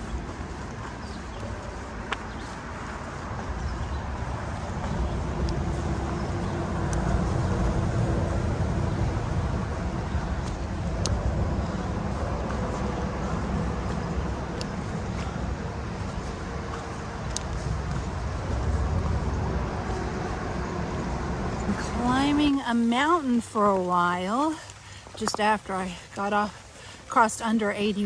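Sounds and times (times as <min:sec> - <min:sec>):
highway traffic rushing: 0:00.0 - 0:28.0.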